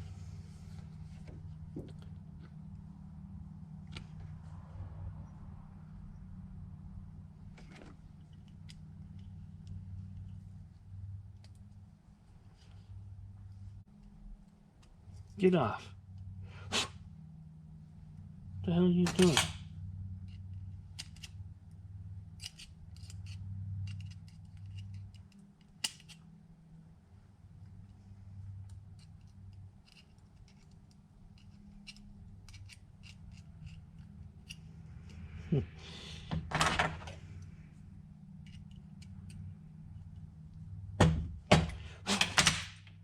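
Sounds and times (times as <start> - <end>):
steady low hum: 0.0 - 36.5.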